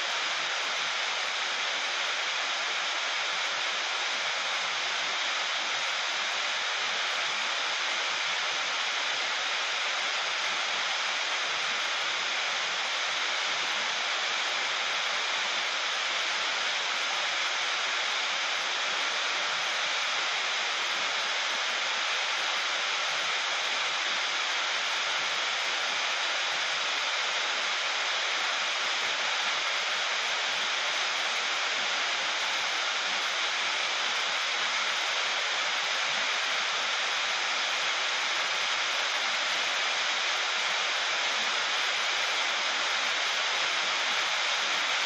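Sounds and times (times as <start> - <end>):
heavy rain on metal roof: 0.0 - 45.0.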